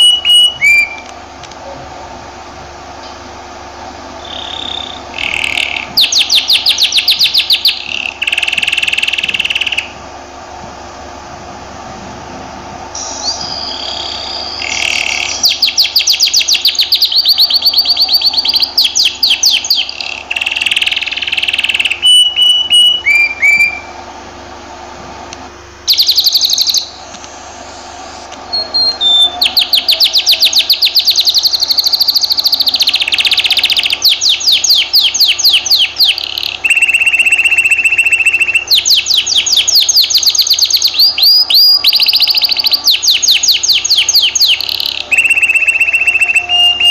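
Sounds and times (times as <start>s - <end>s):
canary singing trills: 0.0s - 1.1s, 4.2s - 10.0s, 13.0s - 24.0s, 25.8s - 27.1s, 28.0s - 46.9s.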